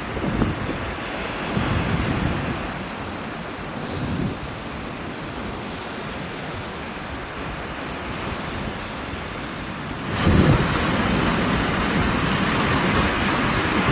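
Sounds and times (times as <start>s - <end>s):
sea waves washing on beach: 0.0s - 13.9s
wind buffeting microphone: 0.0s - 13.9s.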